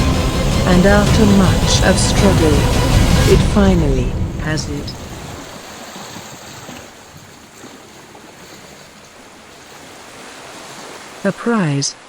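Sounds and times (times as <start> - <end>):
sea surf waves: 0.0 - 12.0.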